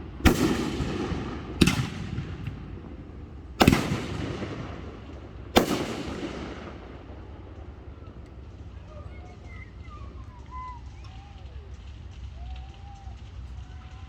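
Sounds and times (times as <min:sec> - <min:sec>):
firework bursts with rumble: 0:00.0 - 0:14.0.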